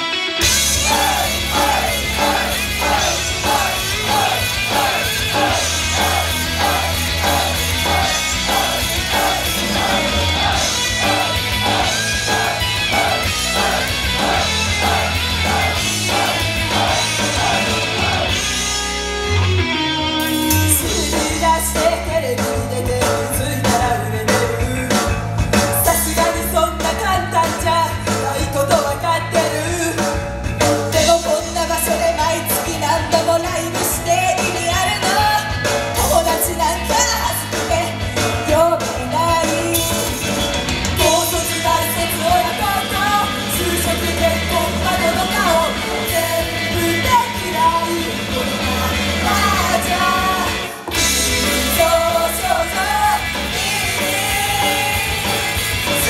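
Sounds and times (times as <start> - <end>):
guitar-driven backing: 0.0 - 56.0
group singing rock-style pop song: 0.1 - 18.9, 20.4 - 56.0.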